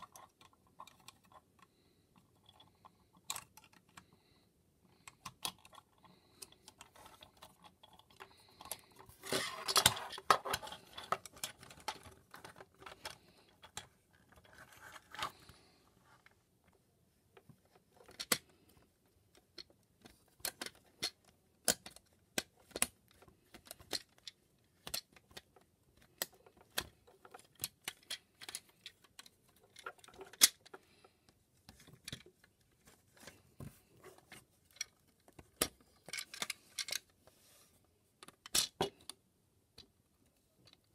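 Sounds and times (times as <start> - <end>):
plastic toy parts clicking and rattling: 0.0 - 4.2, 4.8 - 37.3, 38.2 - 40.9.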